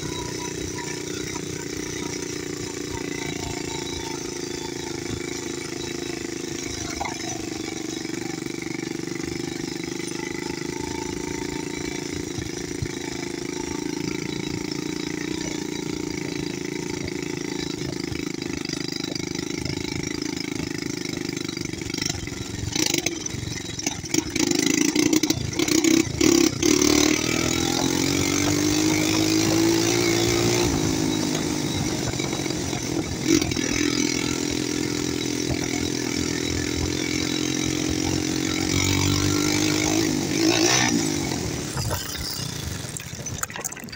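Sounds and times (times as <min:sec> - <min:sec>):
atv engine revving: 0:00.0 - 0:43.9
knocks and rattles over bumps: 0:00.0 - 0:43.9.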